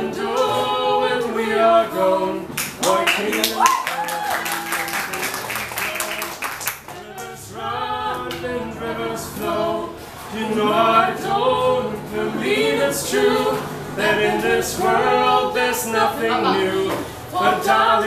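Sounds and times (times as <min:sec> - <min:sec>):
voices singing unaccompanied: 0:00.0 - 0:18.0.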